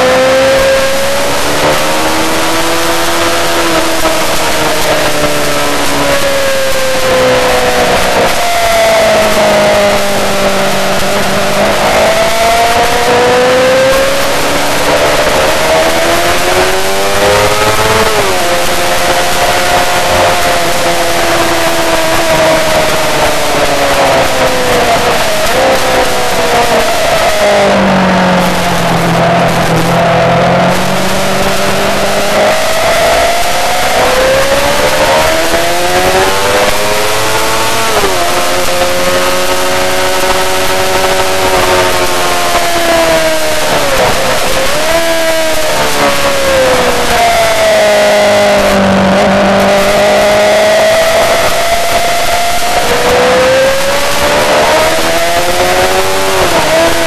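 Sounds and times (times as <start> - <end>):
motorcycle engine: 0.0 - 57.0
wind noise: 0.0 - 57.0.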